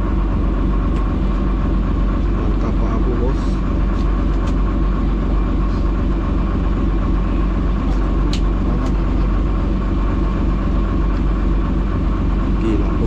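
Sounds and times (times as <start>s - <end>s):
boat engine running at low revs: 0.0s - 13.0s.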